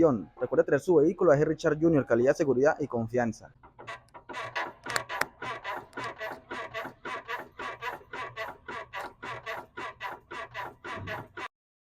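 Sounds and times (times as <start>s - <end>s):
vehicle suspension squeaking: 0.0s - 2.8s, 3.5s - 11.5s.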